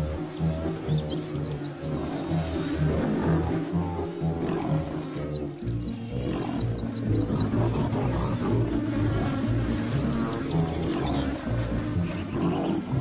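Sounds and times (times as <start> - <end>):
background music with bass line: 0.0 - 13.0
lion roaring: 0.0 - 13.0.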